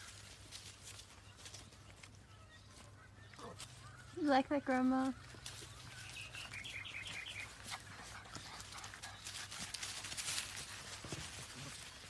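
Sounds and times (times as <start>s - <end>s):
paws scuffling in dry leaves: 0.0s - 12.0s.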